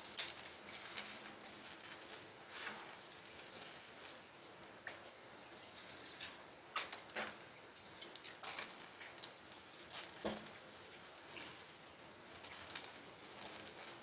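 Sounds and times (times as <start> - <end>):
crunches and crackles: 0.0 - 14.0.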